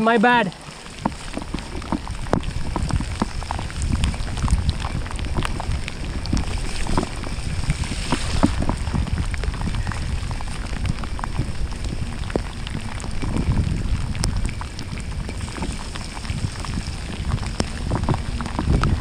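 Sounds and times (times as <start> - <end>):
low rumble of wind and riding: 0.0 - 19.0
raindrops ticking on camera housing: 0.0 - 19.0.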